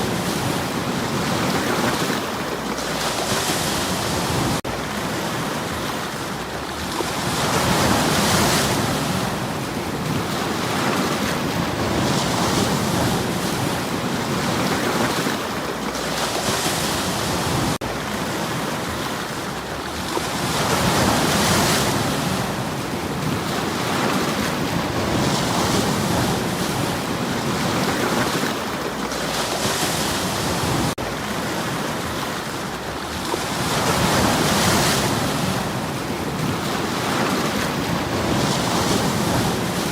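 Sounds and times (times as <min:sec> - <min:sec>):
sea waves washing on stones: 0:00.0 - 0:39.9.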